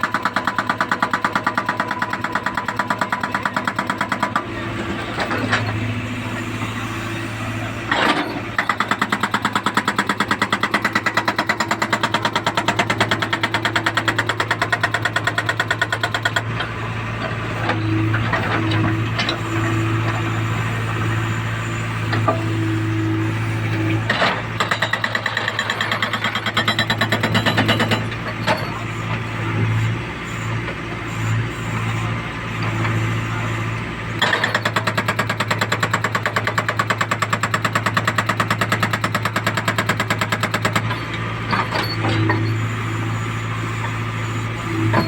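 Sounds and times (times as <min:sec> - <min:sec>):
hydraulic breaker hammering concrete: 0:00.0 - 0:05.8, 0:07.9 - 0:29.8, 0:34.2 - 0:42.7.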